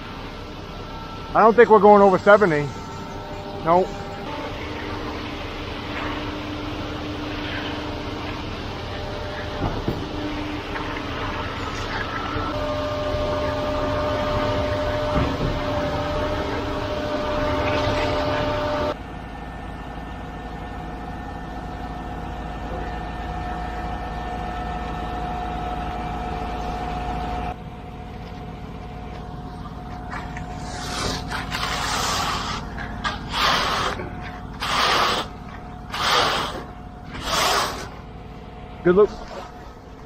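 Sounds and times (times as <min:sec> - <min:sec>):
diesel truck engine running: 0:00.0 - 0:39.0
mixer drum whine: 0:00.0 - 0:40.0.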